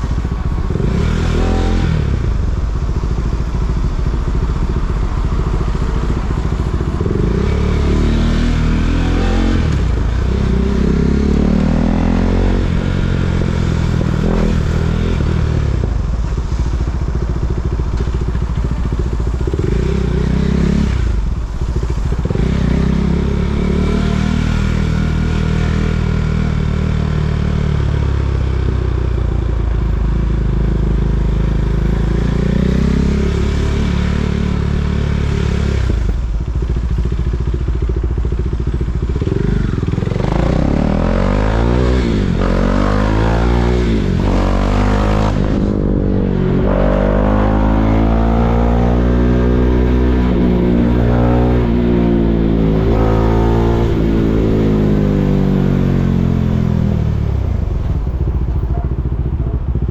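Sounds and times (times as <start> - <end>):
motorcycle engine revving: 0.0 - 29.0, 30.4 - 59.9.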